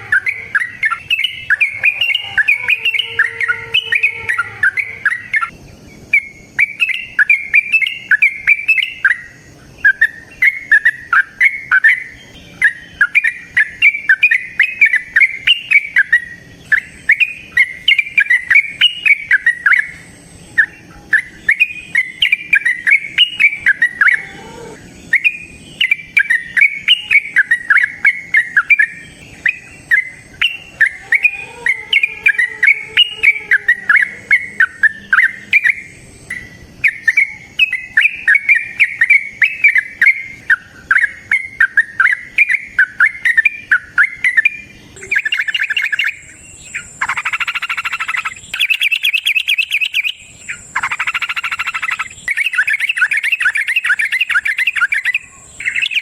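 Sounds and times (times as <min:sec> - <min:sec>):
bulbul singing bubbly chirps: 0:00.0 - 0:56.0.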